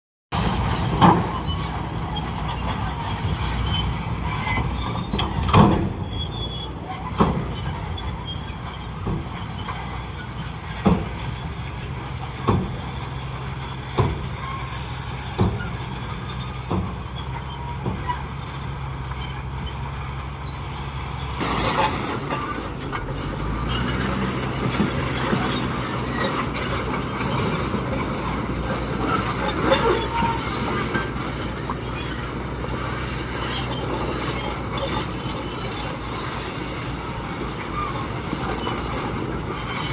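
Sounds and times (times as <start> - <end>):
bulldozer diesel engine running: 0.3 - 39.9
metallic clanks of tracks: 0.3 - 39.9.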